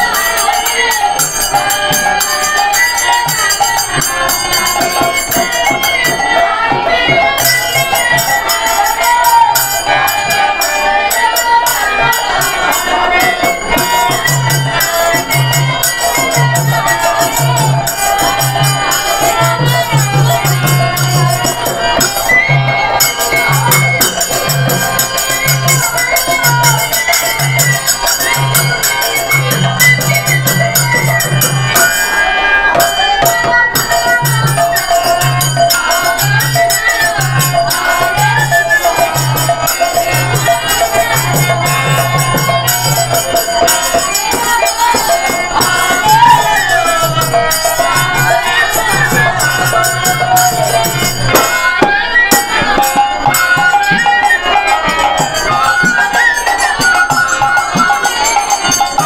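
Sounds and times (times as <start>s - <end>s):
hand cymbals jingling: 0.0s - 59.0s
khol drums beating: 0.0s - 59.0s
wavering melody: 0.0s - 59.0s.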